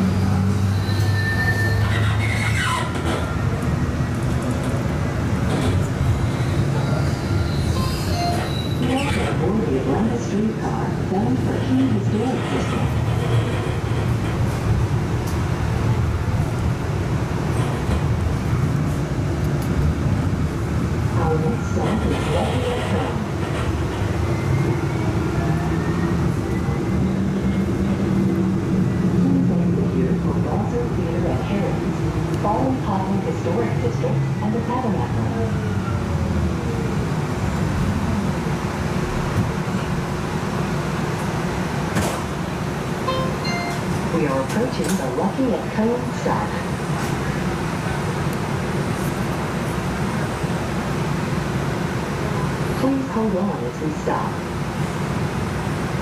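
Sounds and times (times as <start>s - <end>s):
streetcar cabin rumble: 0.0s - 56.0s.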